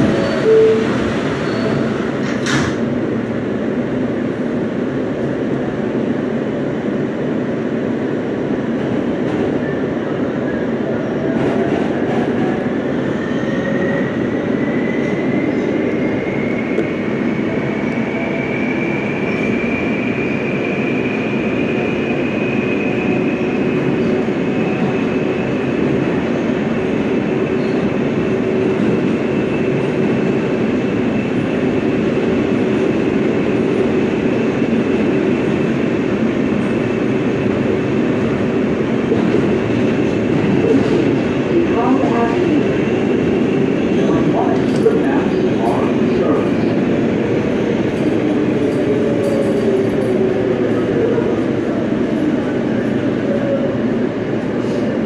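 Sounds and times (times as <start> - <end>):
rumble of wheels on rail: 0.0 - 55.0
subway traction motor whine: 0.0 - 55.0.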